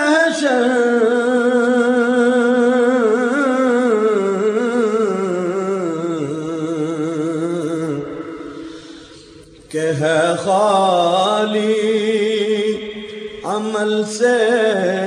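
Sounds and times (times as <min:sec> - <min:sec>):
man singing with vibrato: 0:00.0 - 0:15.0.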